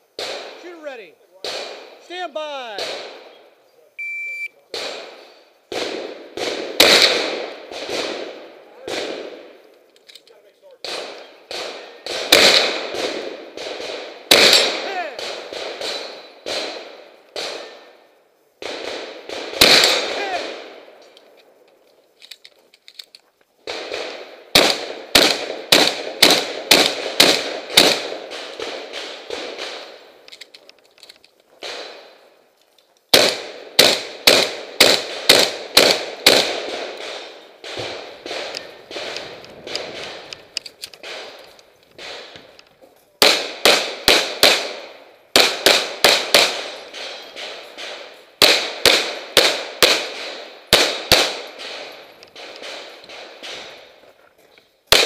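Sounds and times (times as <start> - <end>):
gunshots: 0.2 - 3.3, 4.7 - 9.6, 10.7 - 18.0, 18.6 - 21.0, 23.6 - 30.4, 31.6 - 32.2, 33.1 - 42.6, 43.2 - 54.0.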